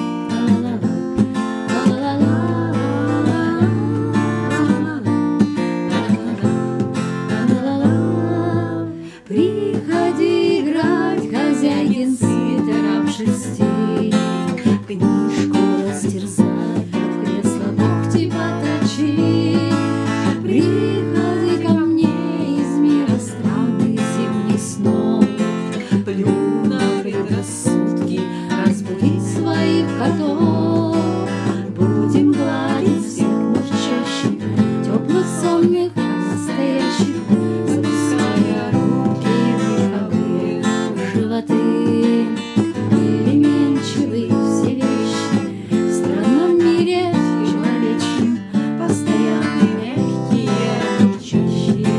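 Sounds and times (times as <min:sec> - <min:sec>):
acoustic guitar strumming: 0:00.0 - 0:51.9
woman singing: 0:00.0 - 0:51.9.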